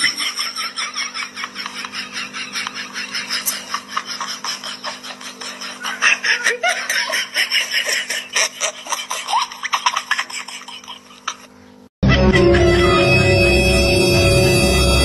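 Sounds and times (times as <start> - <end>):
people laughing: 0.0 - 13.1.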